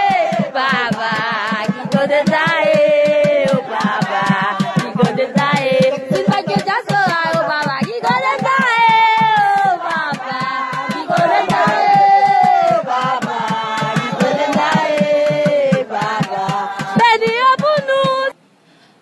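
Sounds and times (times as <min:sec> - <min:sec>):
crowd singing in unison: 0:00.0 - 0:17.4
steady hand clapping: 0:00.0 - 0:18.2.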